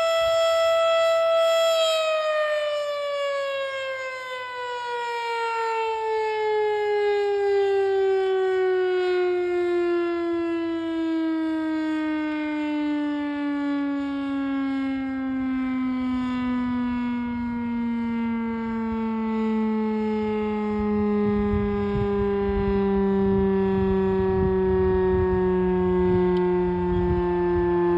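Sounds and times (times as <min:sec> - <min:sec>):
siren winding down: 0:00.0 - 0:27.9.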